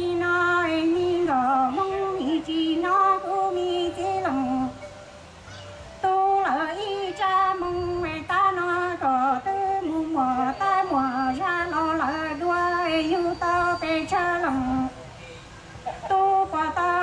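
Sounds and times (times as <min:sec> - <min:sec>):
woman singing through microphone: 0:00.0 - 0:05.0, 0:06.0 - 0:15.1, 0:15.9 - 0:17.0.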